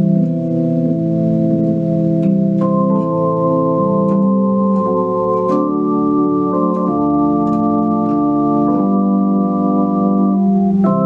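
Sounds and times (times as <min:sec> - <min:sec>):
organ keyboard playing hymn chords: 0:00.0 - 0:11.0.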